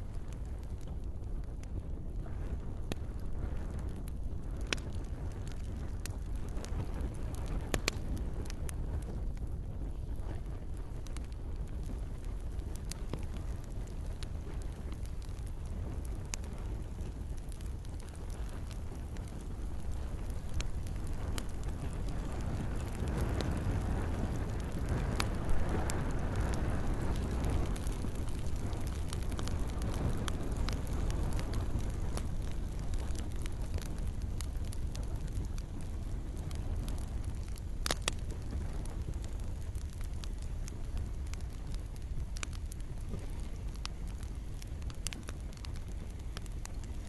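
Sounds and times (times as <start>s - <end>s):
campfire crackling: 0.0s - 47.0s.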